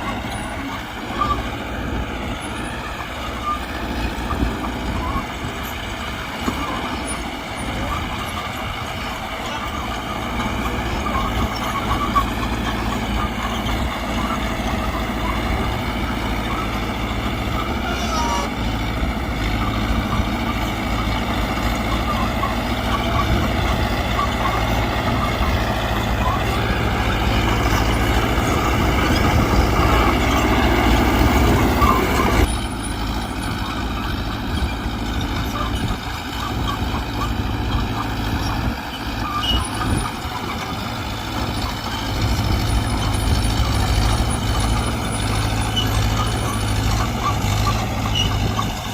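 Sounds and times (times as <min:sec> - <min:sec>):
bulldozer diesel engine under load: 0:00.0 - 0:48.9.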